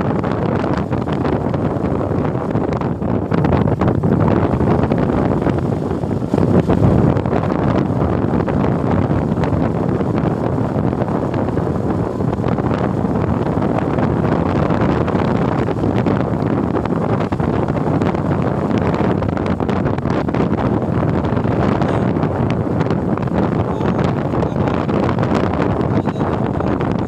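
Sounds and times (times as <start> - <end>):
motorcycle road noise: 0.0 - 27.0
wind buffeting microphone: 0.0 - 27.0.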